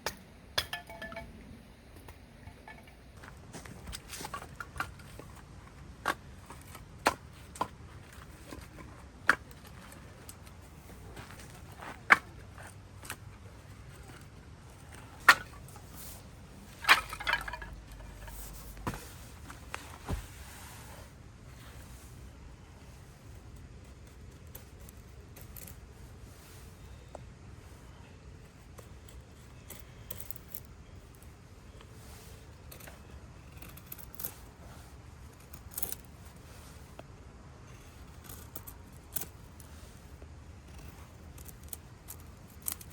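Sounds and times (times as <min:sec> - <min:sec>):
camping gear clicking and clinking: 0:00.1 - 0:20.8, 0:22.9 - 0:27.2, 0:28.4 - 0:37.1, 0:37.7 - 0:42.9.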